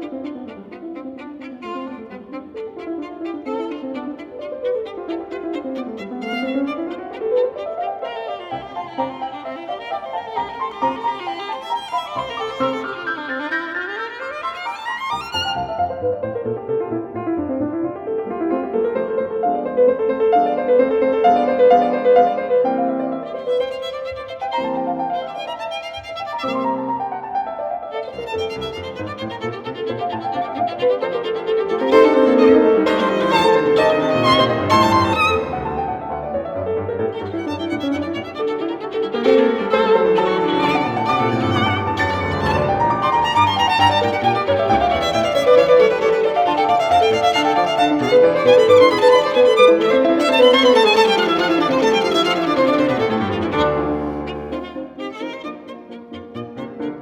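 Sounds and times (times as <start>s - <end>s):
violin melody: 0.0s - 57.0s.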